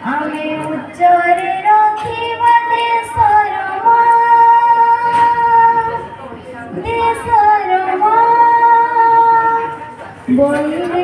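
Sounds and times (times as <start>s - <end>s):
girl singing into a microphone: 0.0s - 11.0s.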